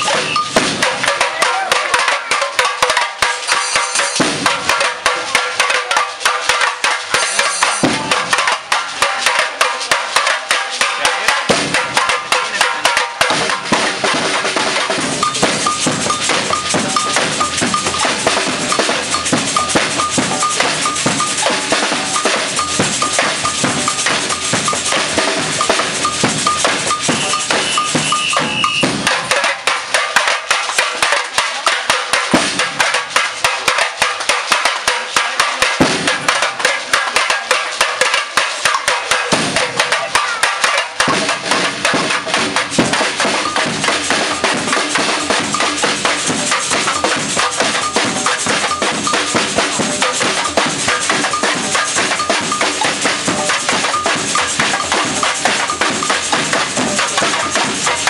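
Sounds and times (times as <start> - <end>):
samba percussion band: 0.0 - 58.0.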